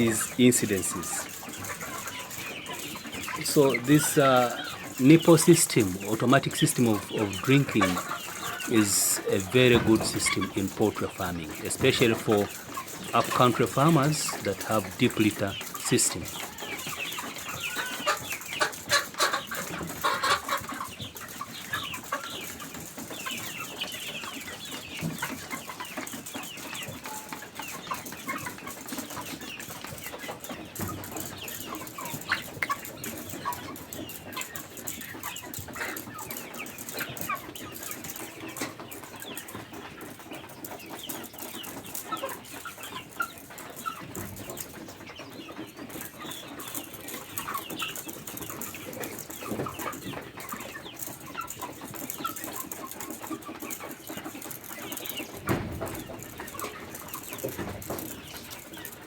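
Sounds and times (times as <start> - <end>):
chickens chirping and clucking: 0.0 - 59.0.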